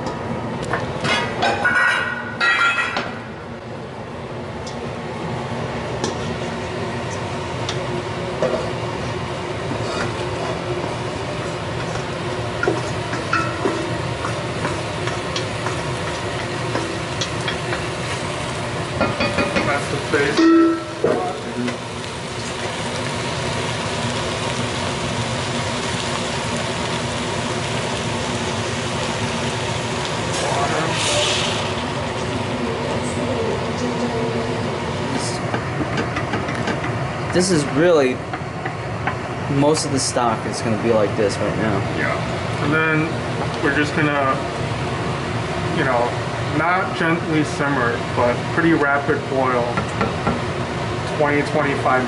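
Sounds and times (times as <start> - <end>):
stock pot bubbling hiss: 5.8 - 52.0.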